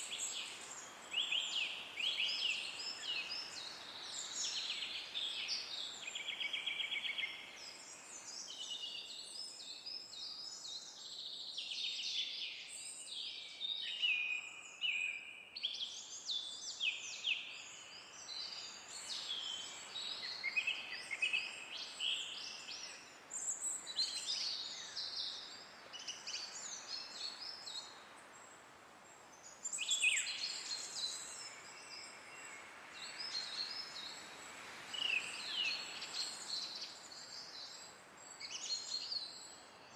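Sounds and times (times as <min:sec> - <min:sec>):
light wind hiss: 0:00.0 - 0:39.9.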